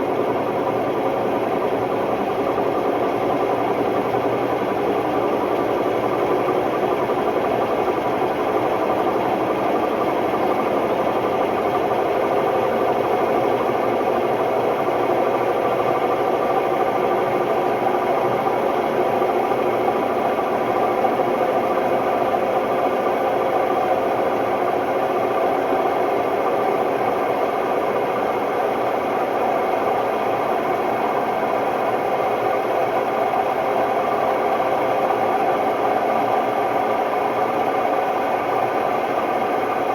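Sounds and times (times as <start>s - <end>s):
washing machine spinning with rattle: 0.0s - 39.9s.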